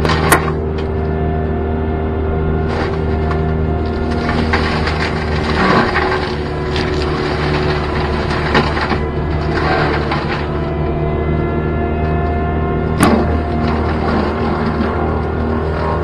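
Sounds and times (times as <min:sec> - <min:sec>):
wood crunching and splintering: 0:00.0 - 0:01.1, 0:02.5 - 0:16.0
machine drone: 0:00.0 - 0:16.0.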